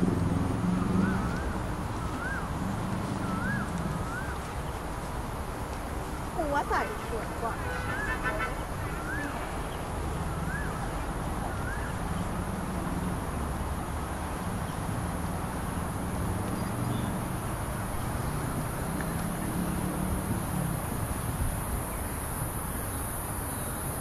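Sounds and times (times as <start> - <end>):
crickets trilling: 0.0 - 24.0
distant city traffic rumble: 0.0 - 24.0.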